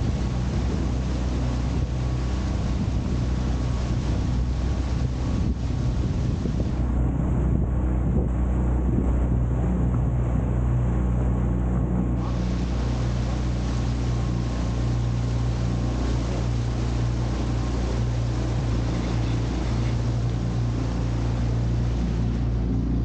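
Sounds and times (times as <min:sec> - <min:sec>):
outboard motor hum: 0:00.0 - 0:23.0
water rushing past hull: 0:00.0 - 0:23.0.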